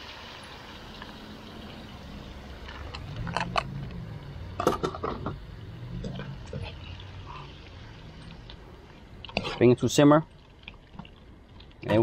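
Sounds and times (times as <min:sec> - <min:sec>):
steady low hum: 0:00.1 - 0:11.8.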